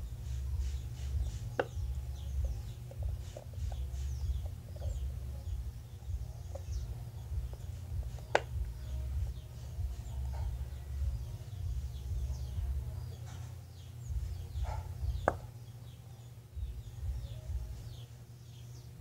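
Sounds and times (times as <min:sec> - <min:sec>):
steady low rumble: 0:00.0 - 0:18.2
small birds chirping: 0:00.0 - 0:19.0.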